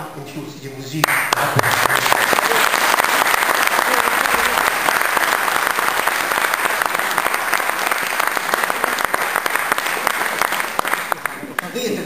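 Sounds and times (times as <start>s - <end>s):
crowd applauding: 1.0s - 11.9s.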